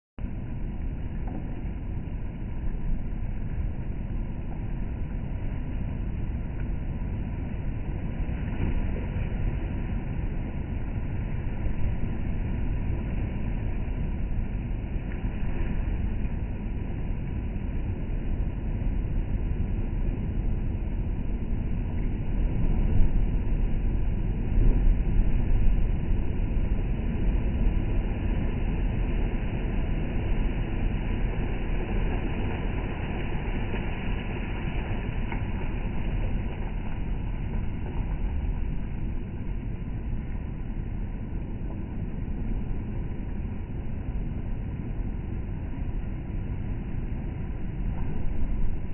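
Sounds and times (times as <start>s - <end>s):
stormy surf breaking on shore: 0.2s - 48.9s.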